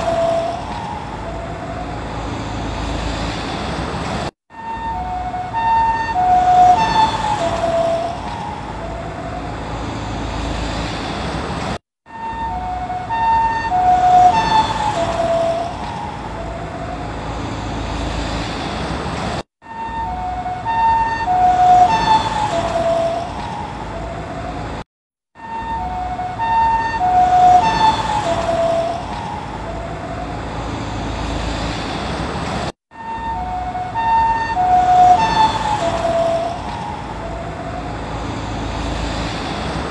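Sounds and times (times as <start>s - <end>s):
ambulance two-tone siren: 0.0s - 3.2s, 4.5s - 10.9s, 12.0s - 18.4s, 19.6s - 31.6s, 32.9s - 39.5s
vehicle and road hum: 0.0s - 39.9s.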